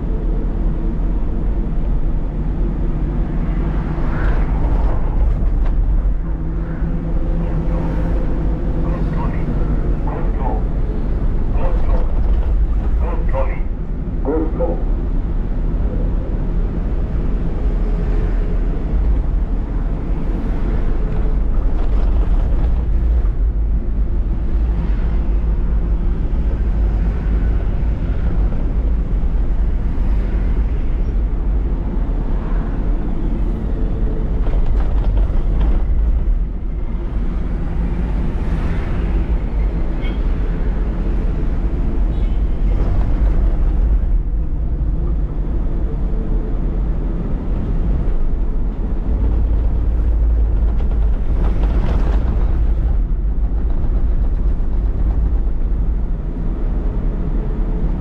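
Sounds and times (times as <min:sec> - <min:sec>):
lorry engine and road rumble: 0:00.0 - 0:58.0.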